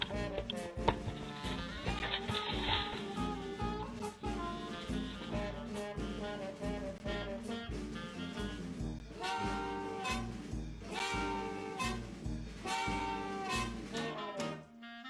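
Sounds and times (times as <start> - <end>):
upbeat instrumental music: 0.0 - 15.0.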